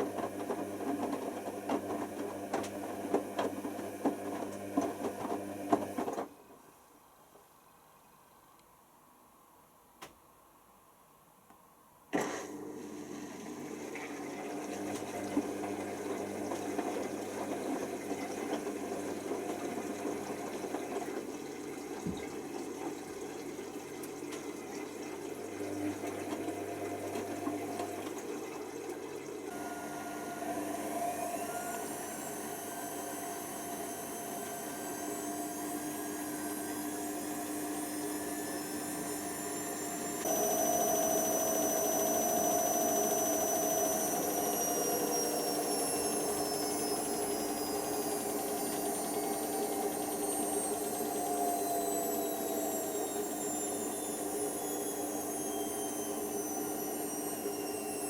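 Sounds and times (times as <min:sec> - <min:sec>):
washer drum motor whining: 0:00.0 - 0:06.4, 0:12.2 - 0:58.0
water and pump noise: 0:00.0 - 0:06.4, 0:12.8 - 0:58.0.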